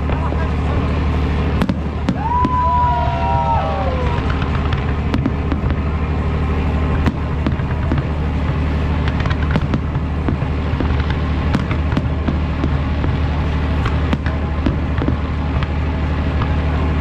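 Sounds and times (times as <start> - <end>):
fireworks bangs and crackling: 0.0 - 17.0
low rumble: 0.0 - 17.0.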